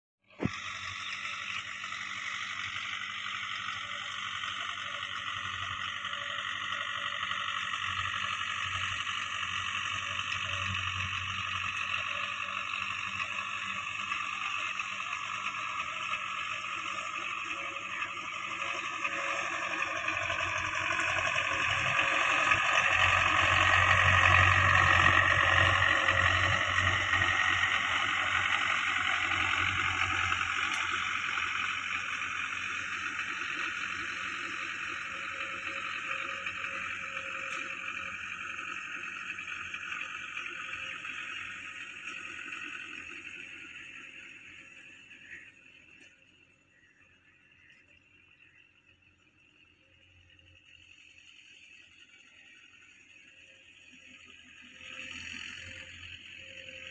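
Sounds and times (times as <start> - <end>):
tractor diesel engine under load: 0.2 - 56.9.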